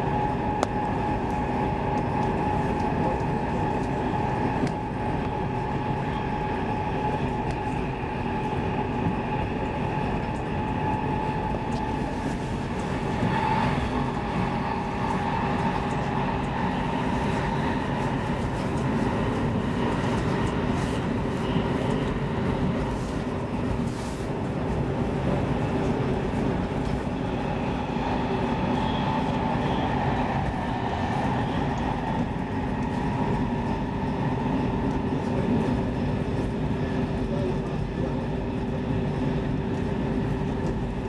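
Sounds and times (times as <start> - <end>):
train interior rumble: 0.0 - 41.0.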